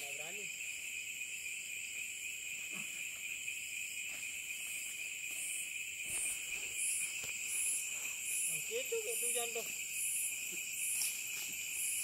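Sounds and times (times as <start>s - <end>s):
crickets shrill tones: 0.0s - 12.0s
higher rhythmic chirping: 0.0s - 12.0s.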